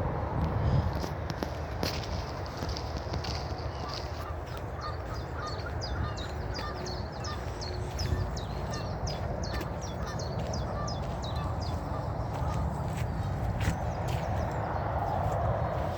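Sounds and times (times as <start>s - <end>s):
birds chirping: 1.9s - 15.9s.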